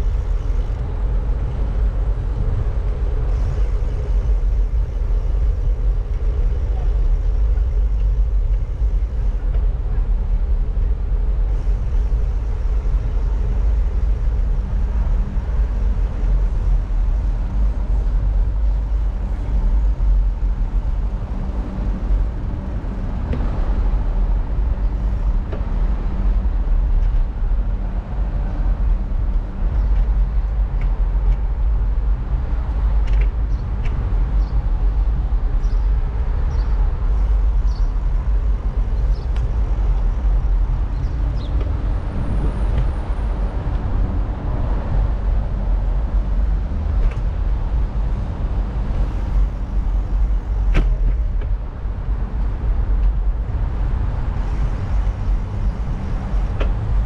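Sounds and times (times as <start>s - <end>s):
bicycle road noise: 0.0s - 57.0s
wind on microphone: 0.0s - 57.0s.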